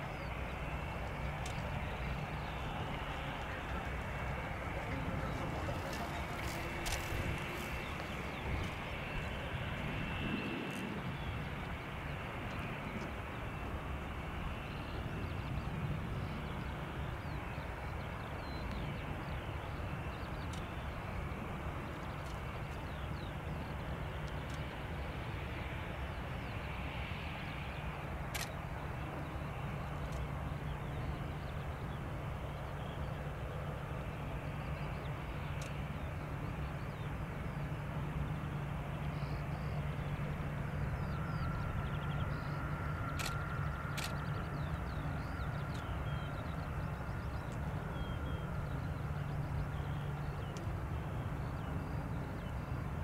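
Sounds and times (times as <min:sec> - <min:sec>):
jet engines idling: 0:00.0 - 0:53.0
low drone: 0:00.0 - 0:53.0.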